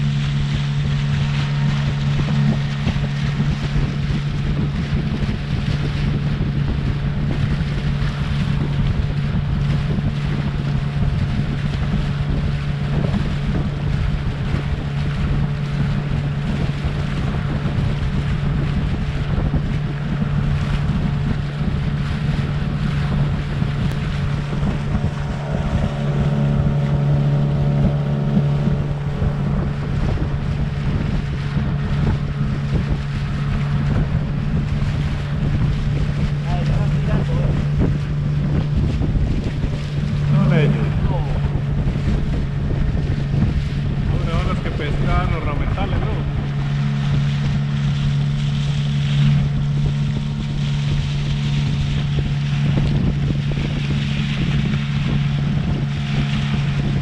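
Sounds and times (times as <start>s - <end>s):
boat motor humming: 0.0s - 57.0s
wind buffeting microphone: 0.0s - 57.0s.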